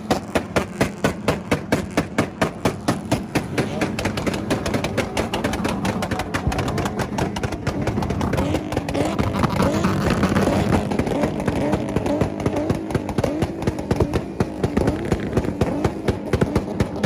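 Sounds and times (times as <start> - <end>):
car engine popping and banging: 0.0 - 17.0.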